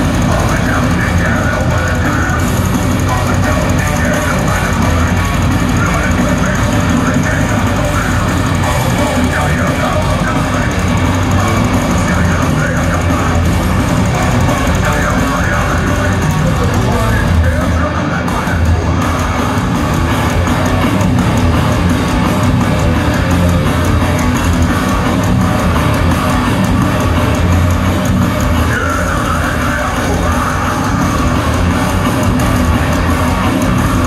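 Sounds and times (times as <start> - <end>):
heavy metal band playing live: 0.0 - 34.0.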